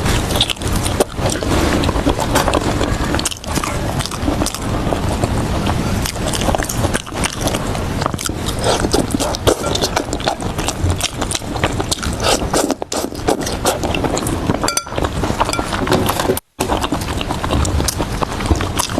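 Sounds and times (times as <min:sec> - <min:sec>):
chewing and crunching food: 0:00.0 - 0:18.9.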